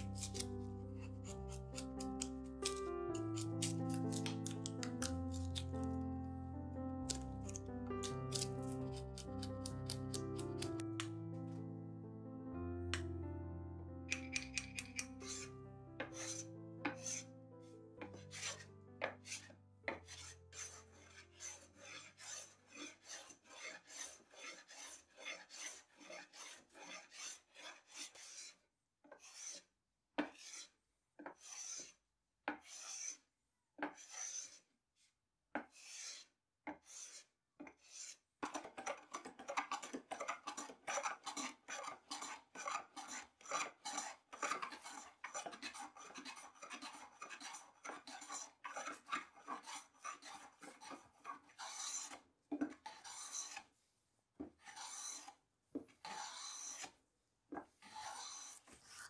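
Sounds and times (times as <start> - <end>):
hand plane shaving wood: 0.0 - 5.8, 7.1 - 10.8, 15.2 - 17.3, 18.0 - 33.2, 33.9 - 34.7, 35.6 - 53.8, 54.4 - 57.0, 57.8 - 59.0.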